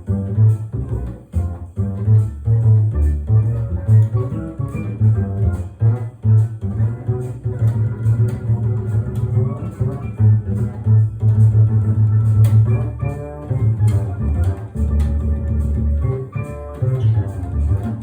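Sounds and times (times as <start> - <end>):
double bass plucked notes: 0.0 - 18.0.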